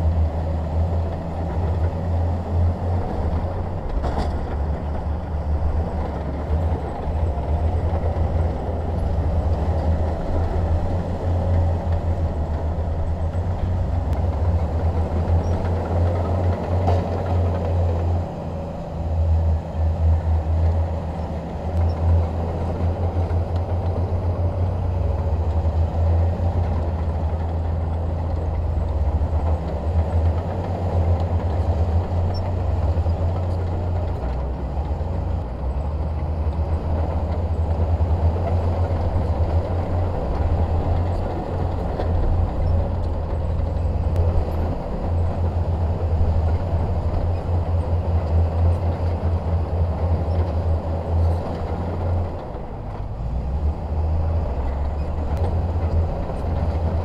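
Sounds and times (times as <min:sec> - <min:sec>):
diesel machinery engine rumbling: 0:00.0 - 0:57.0.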